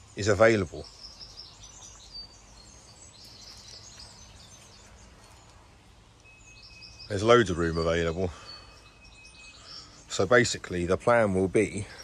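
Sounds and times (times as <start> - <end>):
faint birdsong chirps: 0.0 - 12.0
low outdoor background hum: 0.0 - 12.0.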